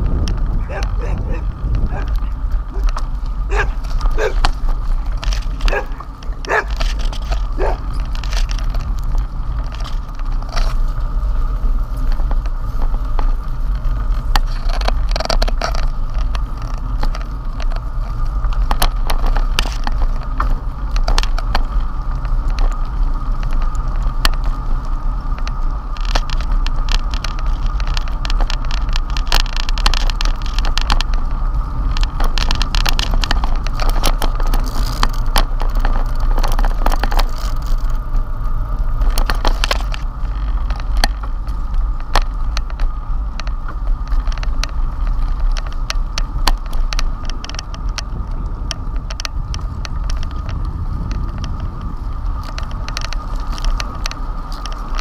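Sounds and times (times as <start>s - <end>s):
bicycle clicks and rattles: 0.0s - 55.0s
wind and road noise rumble: 0.0s - 55.0s.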